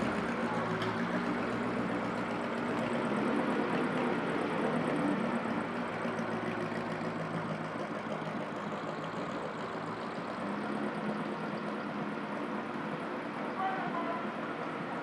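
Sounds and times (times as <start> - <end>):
car engine running: 0.0 - 13.4.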